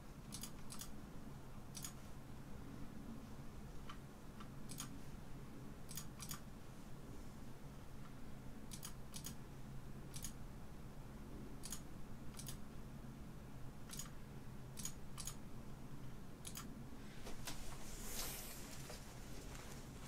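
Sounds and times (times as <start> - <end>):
faint steady low hum: 0.0 - 20.0.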